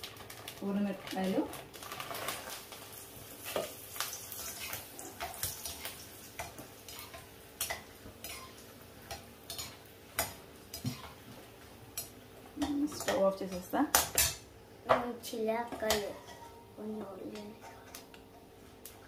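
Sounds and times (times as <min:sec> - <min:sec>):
chillies sizzling in oil: 0:00.0 - 0:19.0.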